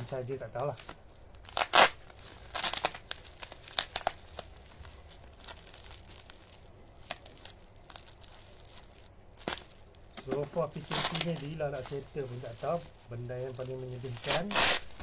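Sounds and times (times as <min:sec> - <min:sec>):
bubble wrap crinkling: 0:00.0 - 0:15.0
packing tape peeling: 0:00.0 - 0:15.0.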